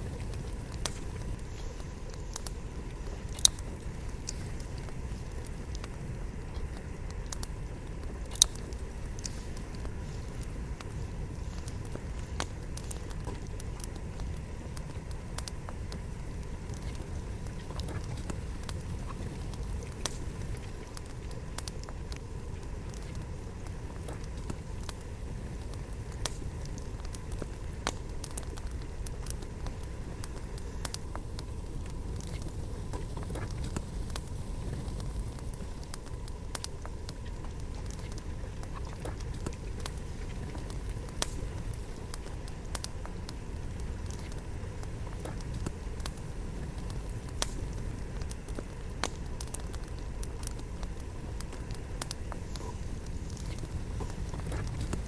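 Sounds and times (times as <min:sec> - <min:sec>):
burning logs crackling and popping: 0:00.0 - 0:55.0
campfire flames rushing: 0:00.0 - 0:55.0.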